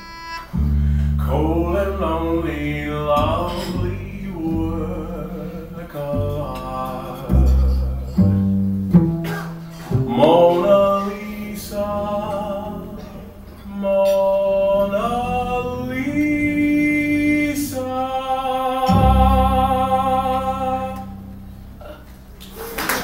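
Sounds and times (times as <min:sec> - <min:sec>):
upright bass: 0:00.0 - 0:22.5
piano: 0:00.0 - 0:23.0
man singing with vibrato: 0:01.0 - 0:08.3, 0:10.0 - 0:22.0.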